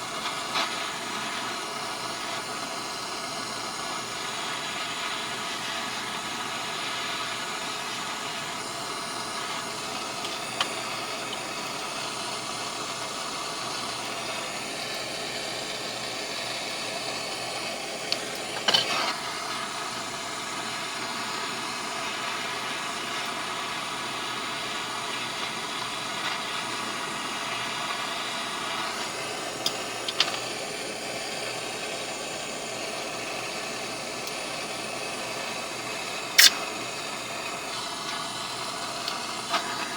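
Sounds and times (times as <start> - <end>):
welding arc hissing and crackling: 0.0 - 39.9.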